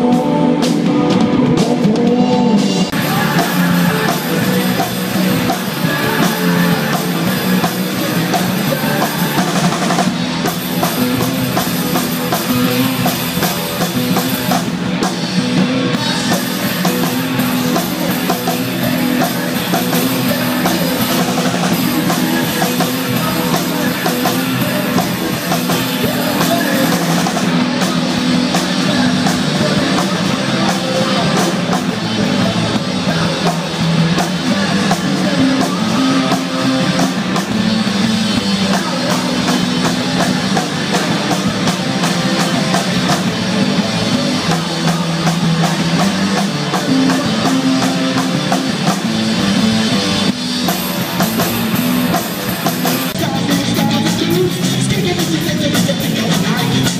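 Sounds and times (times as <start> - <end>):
drum kit: 0.0 - 56.9
electric guitars: 0.0 - 56.9.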